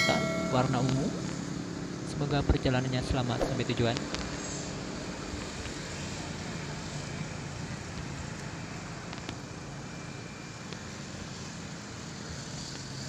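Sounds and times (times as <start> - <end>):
traffic hum: 0.0 - 13.0.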